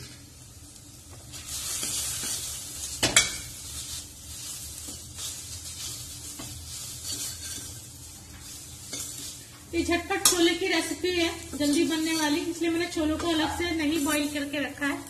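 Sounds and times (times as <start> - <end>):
spices sizzling in oil: 0.0 - 15.0
spoon stirring and scraping pot: 1.2 - 14.4.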